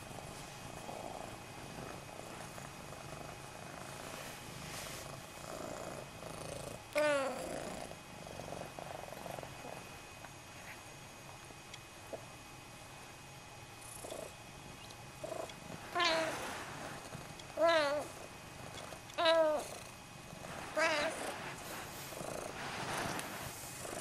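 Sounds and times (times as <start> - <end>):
cat purring: 0.0 - 10.0, 13.8 - 24.0.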